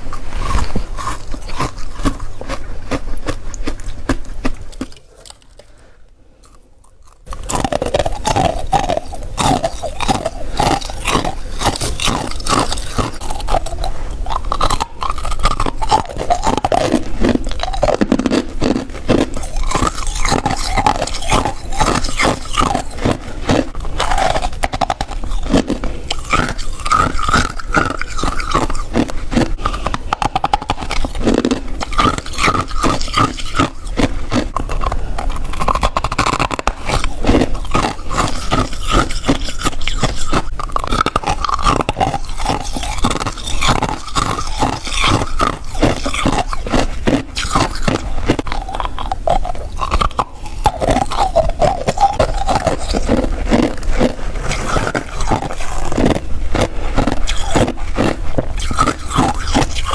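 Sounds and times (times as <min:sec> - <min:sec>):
chewing crunchy frost: 0:00.0 - 0:59.9.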